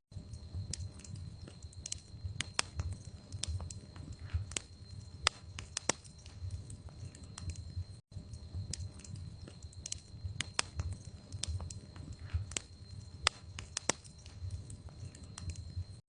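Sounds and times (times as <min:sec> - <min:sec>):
log fire crackling: 0:00.1 - 0:16.0
low rumble of flames: 0:00.1 - 0:16.0
sharp pops from fire: 0:00.2 - 0:15.9.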